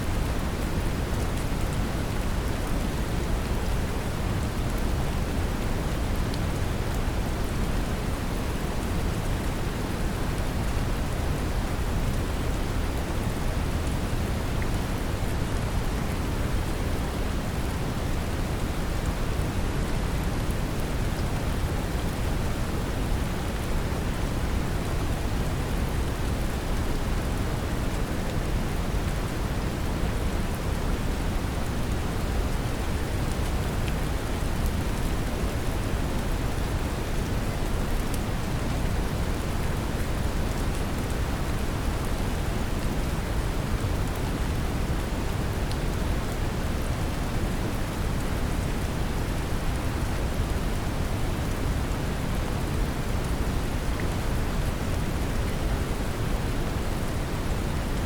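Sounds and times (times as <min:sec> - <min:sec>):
gentle rain: 0:00.0 - 0:58.0.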